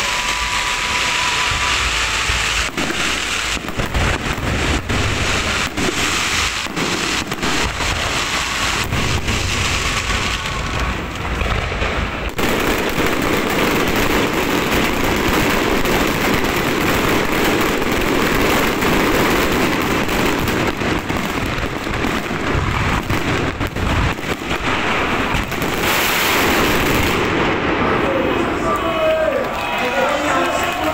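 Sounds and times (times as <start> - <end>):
firecrackers crackling: 0.0 - 30.9.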